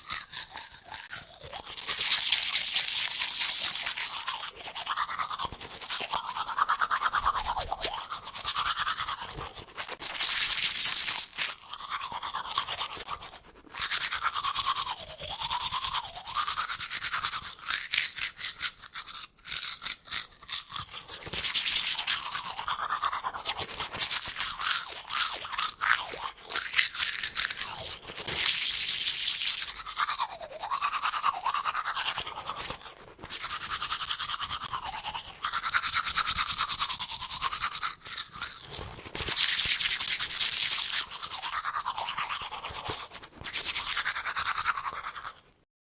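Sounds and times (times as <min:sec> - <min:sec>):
toothbrush scrubbing teeth: 0:00.0 - 0:45.6.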